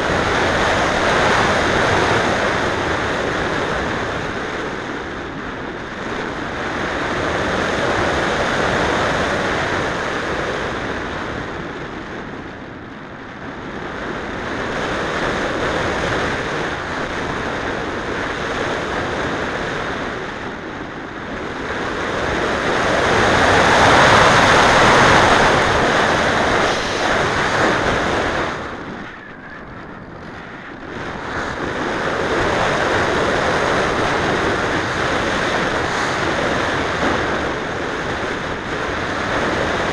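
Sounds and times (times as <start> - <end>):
wind noise rushing over microphone: 0.0 - 39.9.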